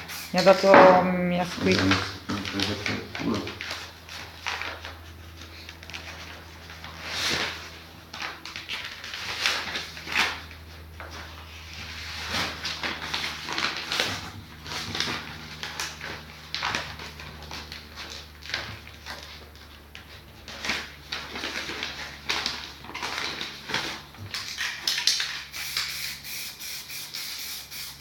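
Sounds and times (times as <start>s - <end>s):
paper crinkling and scraping: 1.5s - 25.5s.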